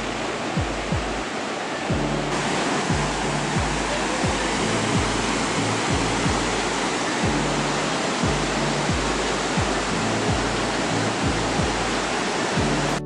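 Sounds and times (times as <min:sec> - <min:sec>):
background music beat: 0:00.0 - 0:13.0
whitewater rapids rushing: 0:00.0 - 0:13.0.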